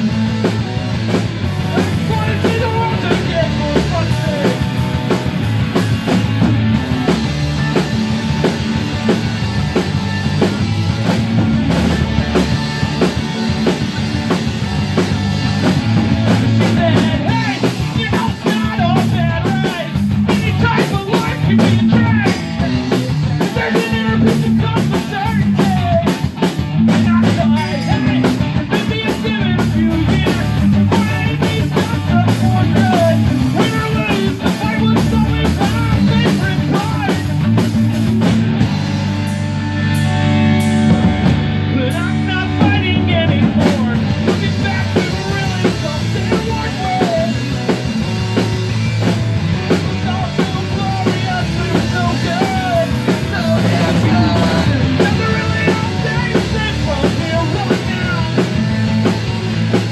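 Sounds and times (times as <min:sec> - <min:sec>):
drum kit beat: 0:00.0 - 0:59.9
electric guitars: 0:00.0 - 0:59.9.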